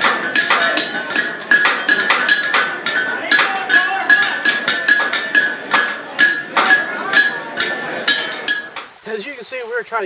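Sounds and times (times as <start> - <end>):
hammer blows on an anvil: 0.0 - 8.9.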